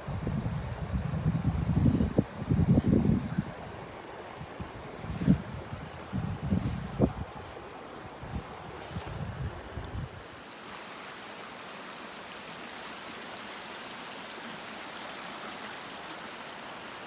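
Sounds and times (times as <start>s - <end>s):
river water rushing: 2.0s - 17.0s.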